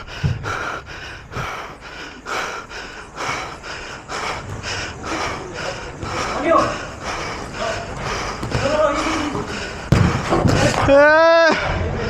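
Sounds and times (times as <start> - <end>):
person breathing hard while running: 0.0 - 10.9.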